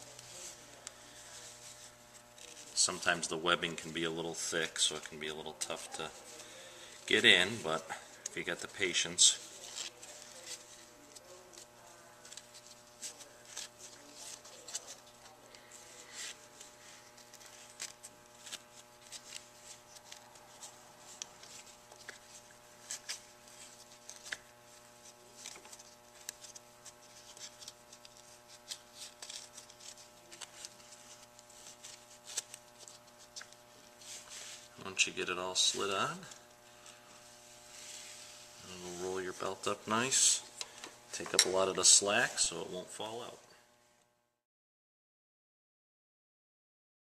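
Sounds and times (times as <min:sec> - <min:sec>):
faint steady hum: 0:00.0 - 0:44.4.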